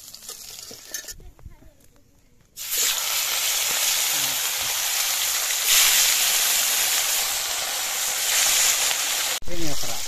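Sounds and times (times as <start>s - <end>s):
fish frying in hot oil: 0.0s - 0.9s, 2.6s - 10.0s.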